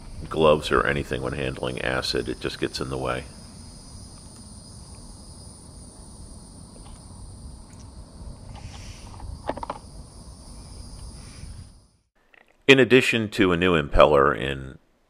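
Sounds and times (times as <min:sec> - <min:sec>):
insects trilling: 0:00.0 - 0:12.1.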